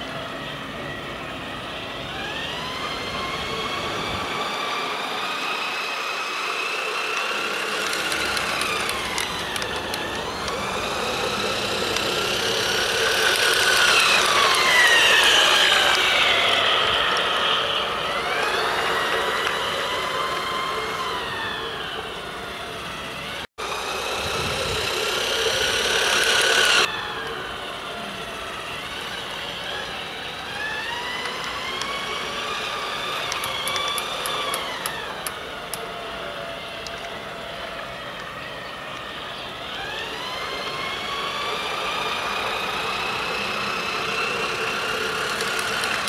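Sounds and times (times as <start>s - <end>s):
toy train motor whining: 0.0s - 46.0s.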